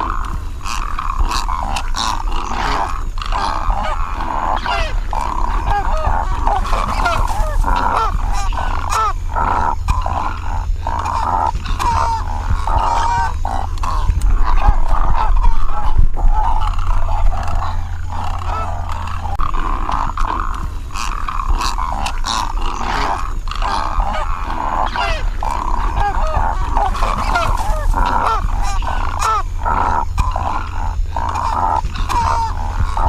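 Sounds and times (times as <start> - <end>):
egrets croaking and calling: 0.0 - 33.0
steady low rumble: 0.0 - 33.0.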